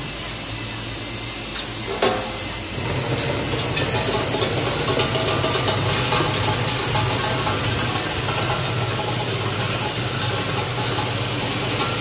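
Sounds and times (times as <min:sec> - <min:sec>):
machine hum and hiss: 0:00.0 - 0:12.0.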